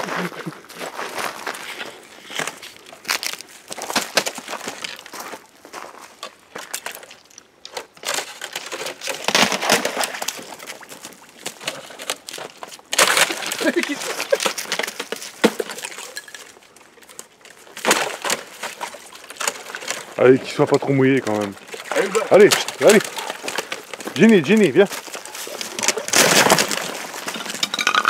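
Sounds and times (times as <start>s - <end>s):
footsteps crunching on frozen ground: 0.0s - 7.6s, 9.3s - 27.6s.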